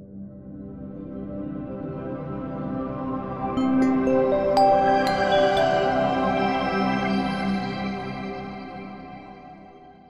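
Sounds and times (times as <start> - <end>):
ambient music with sustained tones: 0.0 - 10.0.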